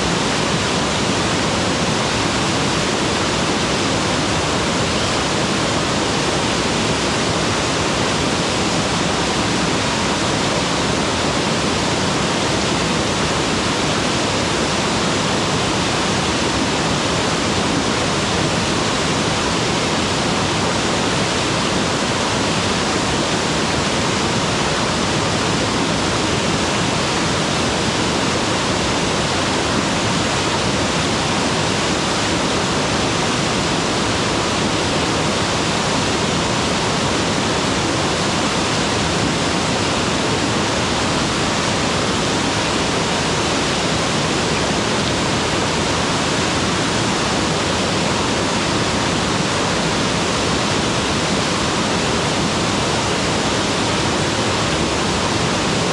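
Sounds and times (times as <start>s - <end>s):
waterfall pouring and splashing: 0.0s - 55.9s.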